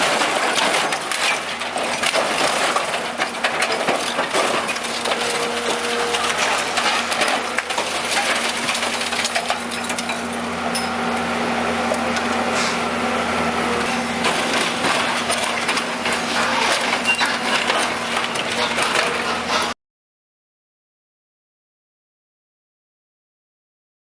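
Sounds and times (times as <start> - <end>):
machine engine humming: 0.0 - 19.8.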